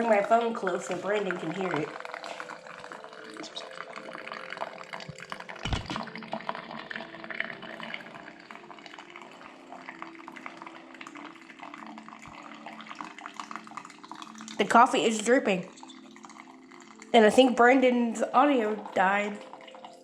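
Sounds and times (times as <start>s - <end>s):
coffee dripping into cup: 0.0s - 20.0s.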